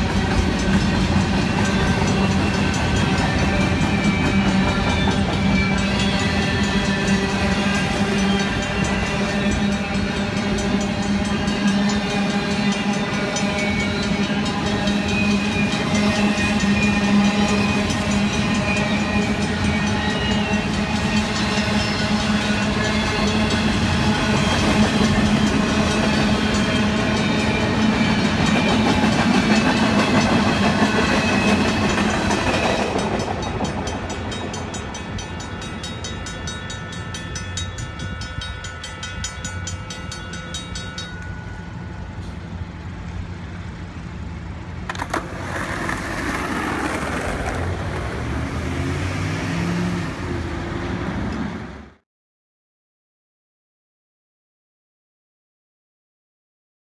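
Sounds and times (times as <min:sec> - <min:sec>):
train passing: 0:00.0 - 0:52.0.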